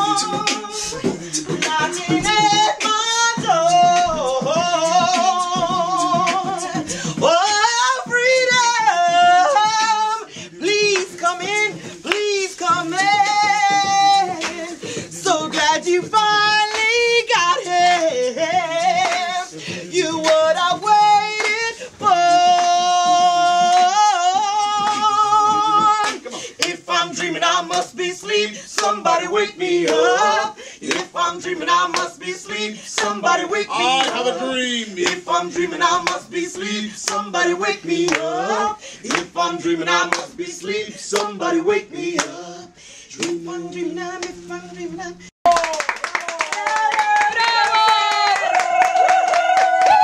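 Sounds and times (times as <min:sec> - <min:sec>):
people singing a cappella: 0:00.0 - 0:45.3
hand claps: 0:00.2 - 0:08.8, 0:09.6 - 0:26.9, 0:27.5 - 0:30.0, 0:30.9 - 0:34.2, 0:35.0 - 0:38.4, 0:39.1 - 0:39.3, 0:40.0 - 0:41.3, 0:42.2 - 0:42.4, 0:43.2 - 0:43.4, 0:45.4 - 0:50.0.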